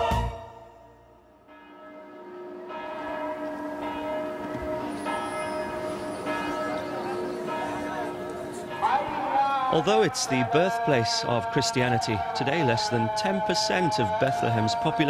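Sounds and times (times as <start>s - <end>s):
church bells ringing: 1.3s - 15.0s.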